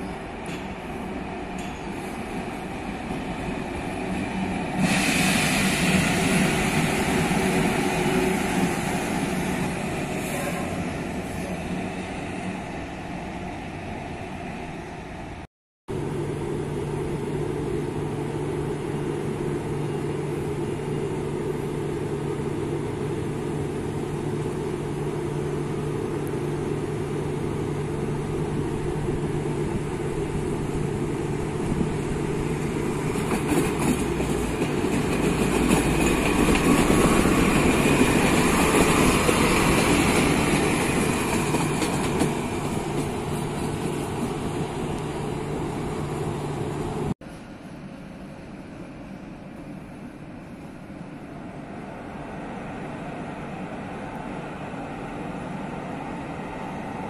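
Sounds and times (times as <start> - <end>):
electric locomotive passing: 0.0 - 57.0
electric train humming: 0.0 - 57.0.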